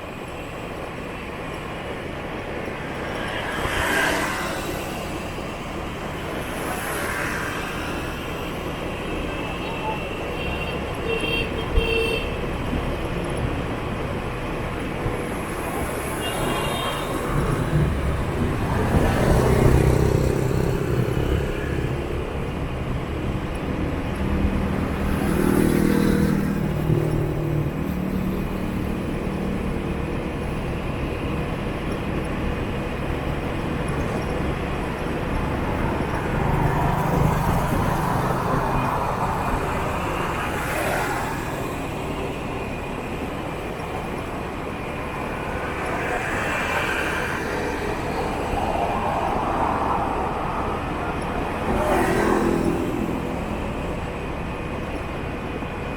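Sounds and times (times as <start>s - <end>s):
scooter engine and road noise: 0.0s - 55.9s
motorbikes passing: 2.7s - 10.0s, 15.0s - 55.8s.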